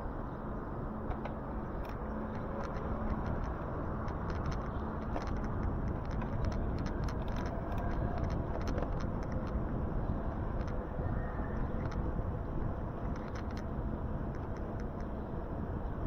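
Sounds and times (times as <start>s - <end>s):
wind and road rumble: 0.0s - 16.0s
small ticks and crackles: 1.0s - 10.9s, 11.5s - 15.3s.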